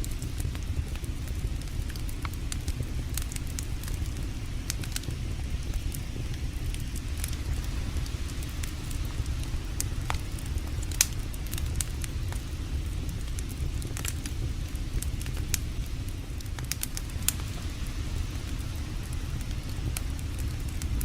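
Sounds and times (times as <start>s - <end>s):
campfire crackling and popping: 0.0s - 21.0s
steady low rush: 0.0s - 21.0s.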